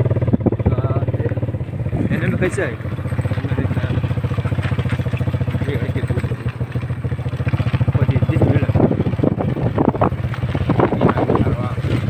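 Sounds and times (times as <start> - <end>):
engine puttering: 0.0 - 12.0.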